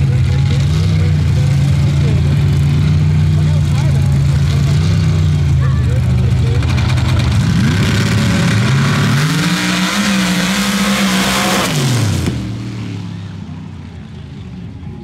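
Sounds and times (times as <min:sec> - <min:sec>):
drag racer engines at full throttle: 0:00.0 - 0:15.0.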